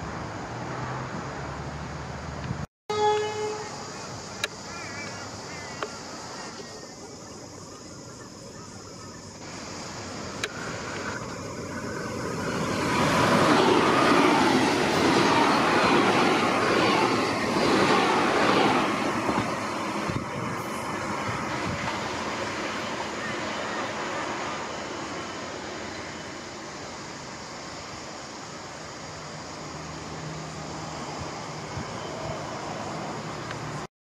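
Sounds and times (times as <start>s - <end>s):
train wheel and motor rumble: 3.3s - 33.9s.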